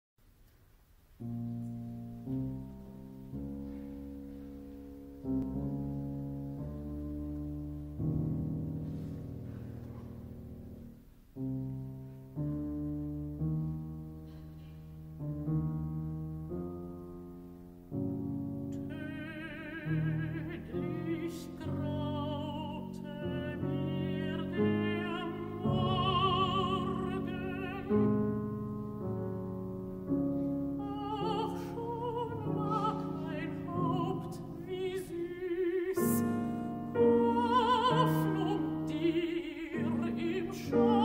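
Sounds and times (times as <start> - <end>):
solo piano chords: 1.2 - 41.0.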